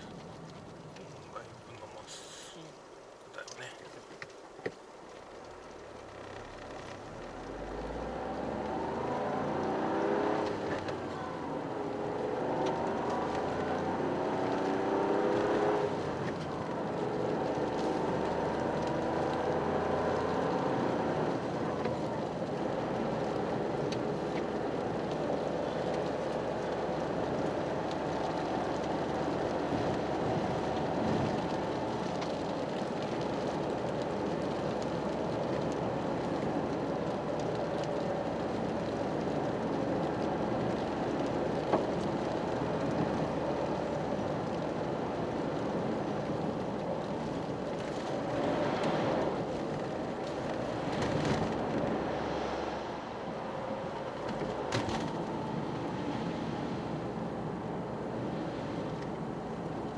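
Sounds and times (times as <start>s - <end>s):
road noise: 0.0s - 59.9s
car engine accelerating: 5.4s - 59.9s.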